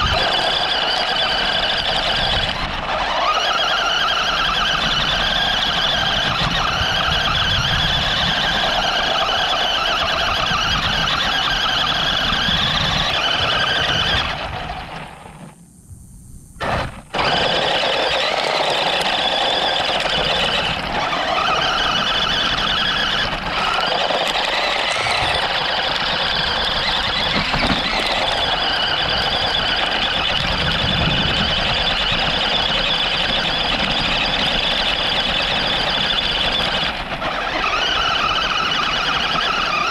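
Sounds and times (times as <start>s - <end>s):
rc car motor whining: 0.0s - 15.6s, 16.6s - 39.9s.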